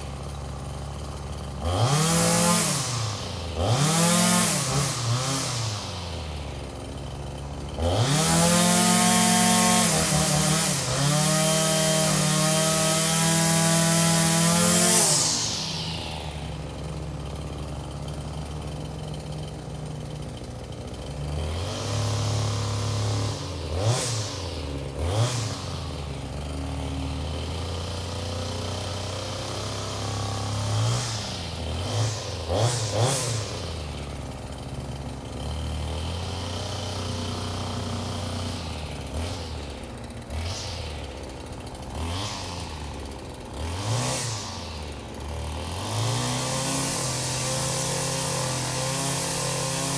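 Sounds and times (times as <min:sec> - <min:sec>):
two-stroke engine idling and blipping: 0:00.0 - 0:49.9.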